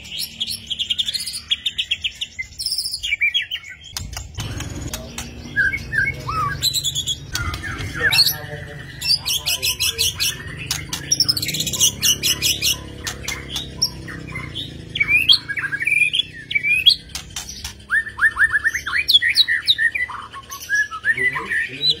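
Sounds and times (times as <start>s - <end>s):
bird singing: 0.0s - 22.0s.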